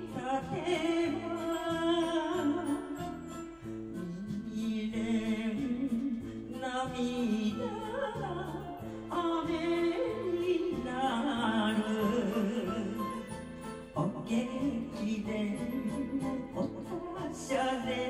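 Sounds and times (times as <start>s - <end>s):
karaoke backing track: 0.0s - 18.0s
woman singing with vibrato: 0.0s - 18.0s.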